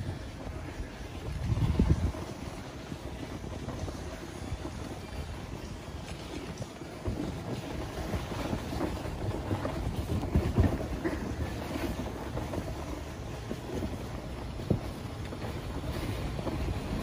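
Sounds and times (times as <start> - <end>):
sled bumps: 0.0 - 17.0
sled scraping over packed snow: 0.0 - 17.0
wind buffeting microphone: 0.0 - 17.0.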